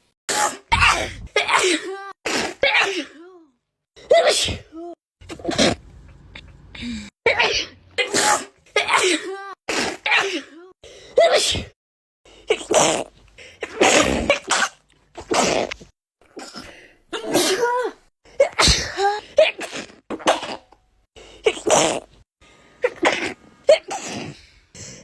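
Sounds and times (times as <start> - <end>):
person sneezing: 0.3 - 3.4, 4.0 - 5.8, 6.8 - 11.8, 12.5 - 15.8, 16.4 - 22.1, 22.8 - 25.0.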